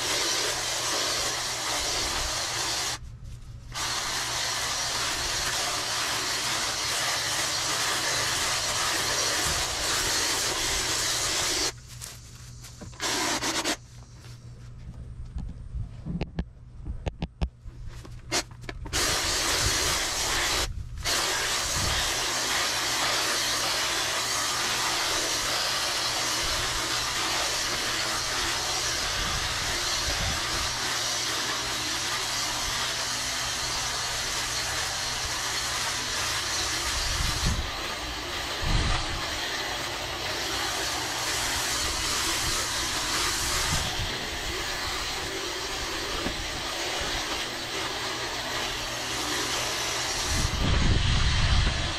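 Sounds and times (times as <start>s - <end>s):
gas-powered lawn equipment running: 0.0s - 3.0s, 3.7s - 12.2s, 18.8s - 51.9s.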